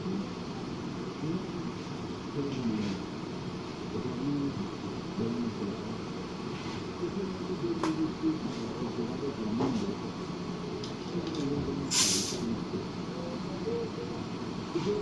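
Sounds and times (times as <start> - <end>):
muffled background noise: 0.0 - 15.0.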